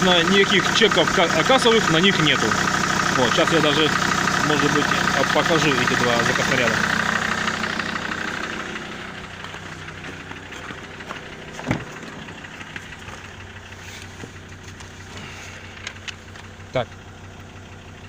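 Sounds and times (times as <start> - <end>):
diesel engine idling with knock: 0.0 - 18.0.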